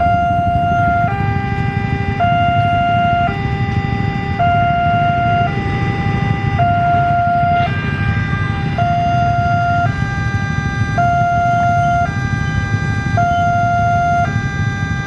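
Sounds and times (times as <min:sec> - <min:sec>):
steady low rumble: 0:00.0 - 0:15.0
two-tone warning siren: 0:00.0 - 0:15.0.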